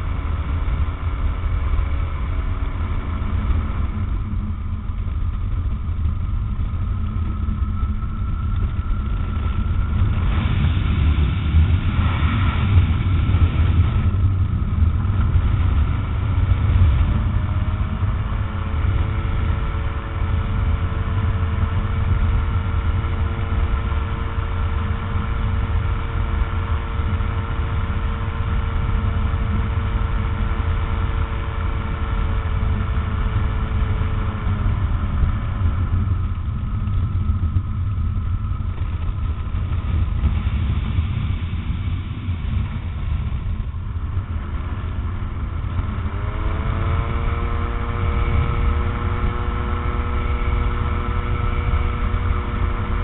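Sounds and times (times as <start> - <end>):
heavy low rumble: 0.0 - 53.0
ultralight aircraft engine running: 0.0 - 53.0.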